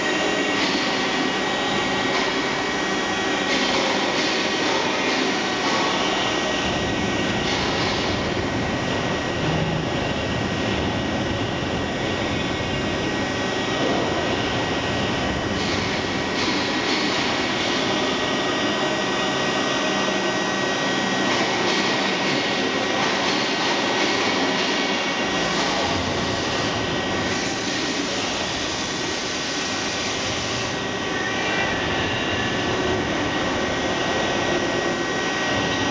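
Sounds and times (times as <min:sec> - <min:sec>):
machining centre whirring: 0:00.0 - 0:35.9.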